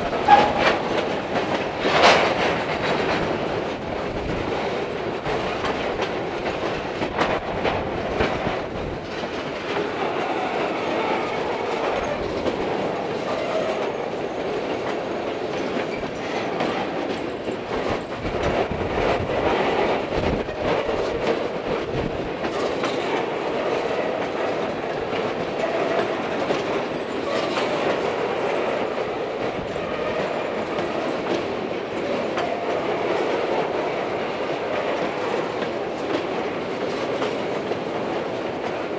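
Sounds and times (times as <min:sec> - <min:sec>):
freight train rolling: 0:00.0 - 0:38.9
train wheels clicking over joints: 0:00.0 - 0:38.9.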